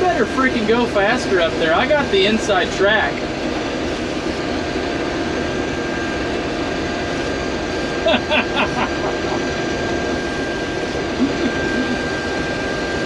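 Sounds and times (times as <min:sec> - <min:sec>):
combine engine and threshing drone: 0:00.0 - 0:13.0
constant high whine: 0:00.0 - 0:13.0.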